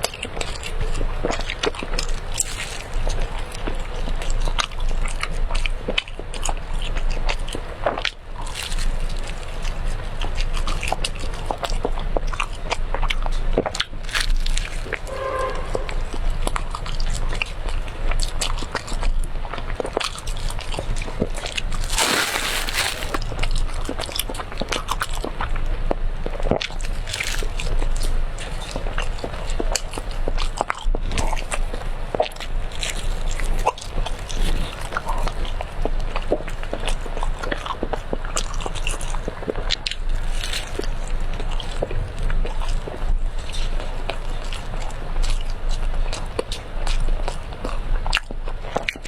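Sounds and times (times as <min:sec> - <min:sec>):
mouth chewing clicks and smacks: 0:00.0 - 0:15.0, 0:17.1 - 0:49.0.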